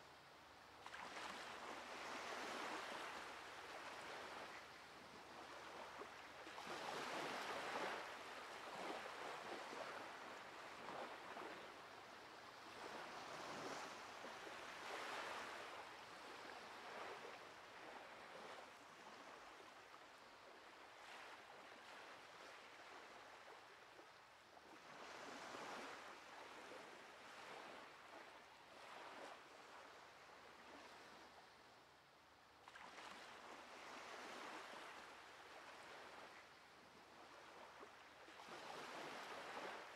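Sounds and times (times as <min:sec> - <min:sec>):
faint waves breaking on beach: 0:00.0 - 0:39.9.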